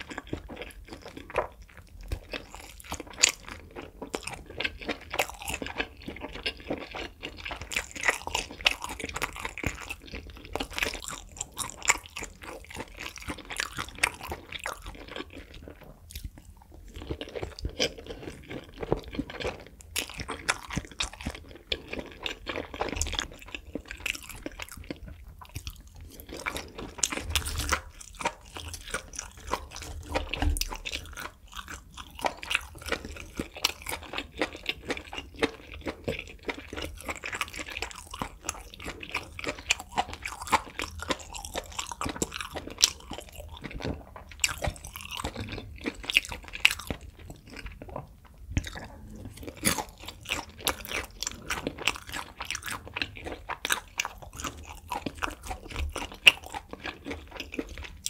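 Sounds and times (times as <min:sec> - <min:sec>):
mouth chewing with sharp clicks: 0:00.0 - 0:58.0.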